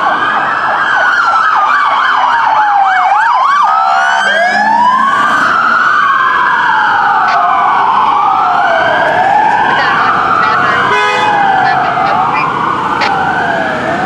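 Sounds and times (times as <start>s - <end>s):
siren wailing: 0.0s - 14.0s
siren yelp: 0.0s - 14.0s.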